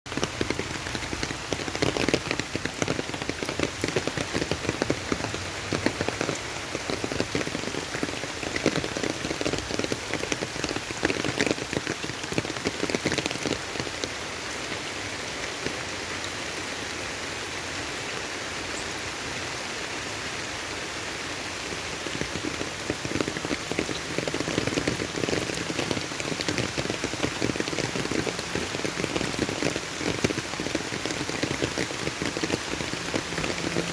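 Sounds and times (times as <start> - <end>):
raindrops striking a surface: 0.1 - 16.8, 18.6 - 33.9
rain falling: 0.1 - 33.9.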